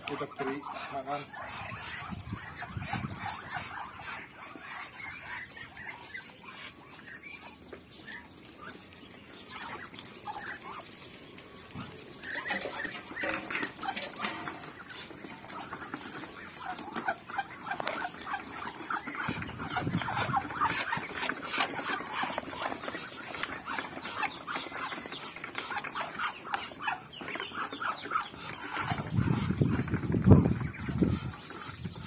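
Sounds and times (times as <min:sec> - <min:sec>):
ducks pecking and dabbling: 0:00.0 - 0:32.0.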